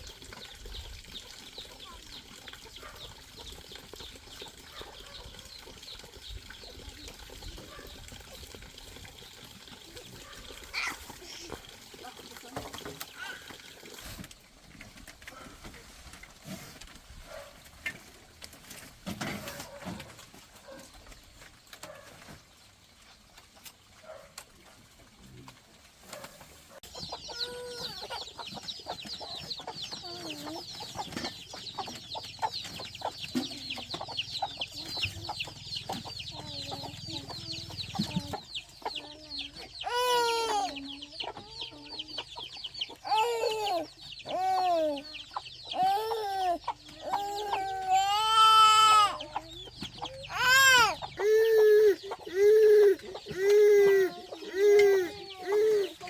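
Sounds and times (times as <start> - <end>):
chickens clucking: 0.0 - 56.0
chicks peeping: 0.0 - 56.0.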